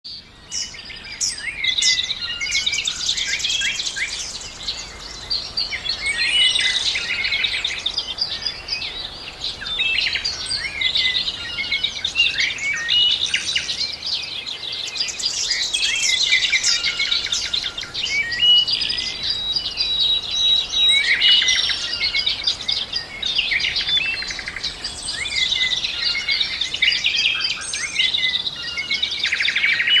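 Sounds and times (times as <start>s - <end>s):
chorus of birds chirping: 0.1s - 30.0s.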